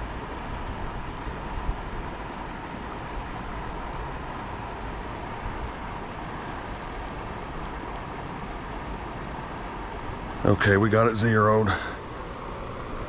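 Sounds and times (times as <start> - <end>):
creek rapids rushing: 0.0 - 13.0.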